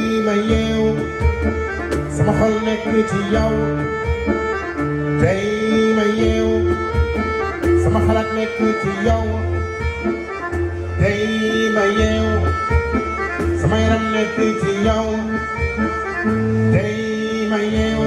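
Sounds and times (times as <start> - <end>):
folk dance music with accordion: 0.0 - 18.0
rhythmic bass: 0.0 - 18.0.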